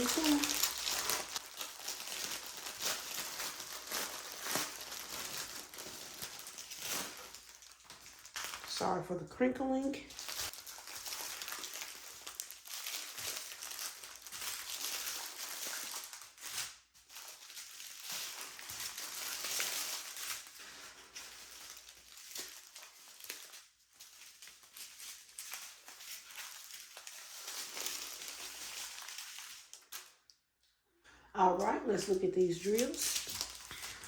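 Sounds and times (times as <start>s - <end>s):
plastic packaging crinkling: 0.0s - 30.7s, 31.6s - 34.0s.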